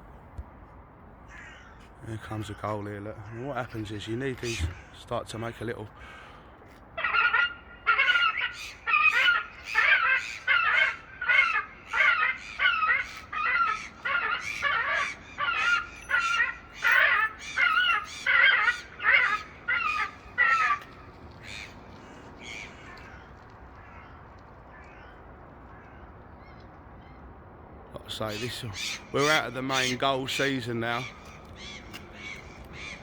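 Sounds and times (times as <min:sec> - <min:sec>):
gull alarm calls: 0:01.3 - 0:06.4, 0:07.0 - 0:26.0, 0:28.0 - 0:33.0.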